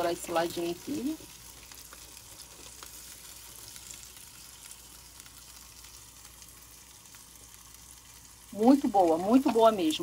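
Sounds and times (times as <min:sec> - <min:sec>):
fat crackling and popping: 0:00.0 - 0:10.0
meat sizzling in a pan: 0:00.0 - 0:10.0.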